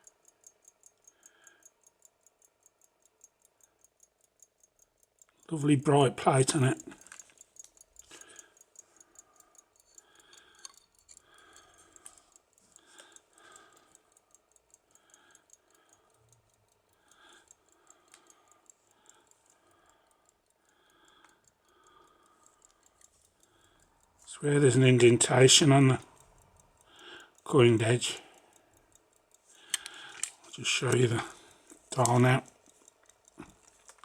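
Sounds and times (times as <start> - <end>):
pocket watch ticking: 0.0 - 34.0.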